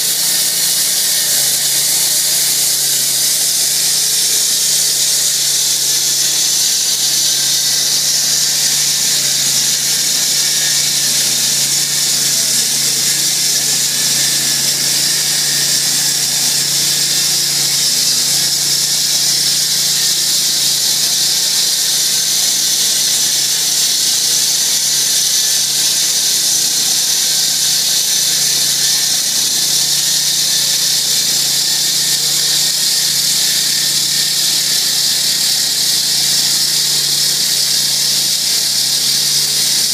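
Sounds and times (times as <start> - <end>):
saw blade hissing in concrete: 0.0 - 39.9.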